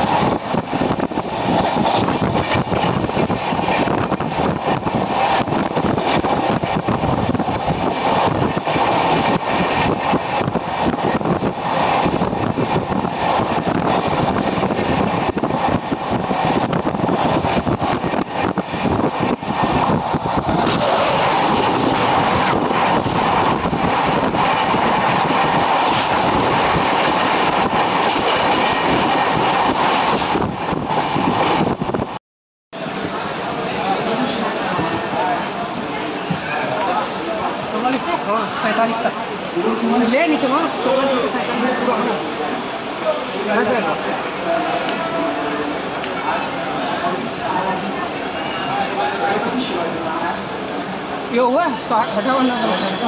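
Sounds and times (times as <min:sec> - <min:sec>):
train rumbling on rails: 0:00.0 - 0:32.2, 0:32.8 - 0:53.0.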